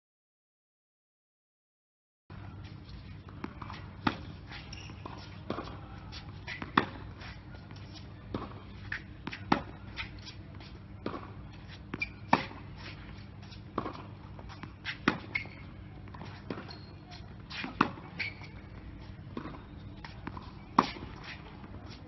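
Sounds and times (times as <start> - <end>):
sneaker squeaks: 2.4 - 22.0
racket hitting tennis ball: 3.2 - 22.0
tennis ball bouncing: 3.2 - 22.0.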